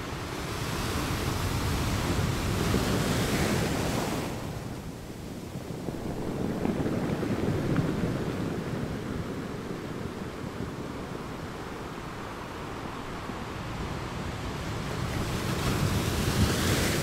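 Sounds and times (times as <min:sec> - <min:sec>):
sea waves surging: 0:00.0 - 0:17.0.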